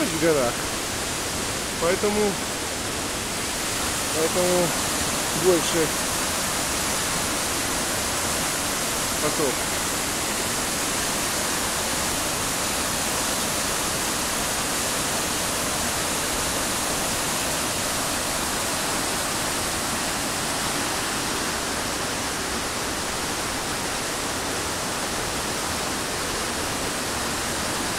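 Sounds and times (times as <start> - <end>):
waterfall rushing over rocks: 0.0 - 27.9.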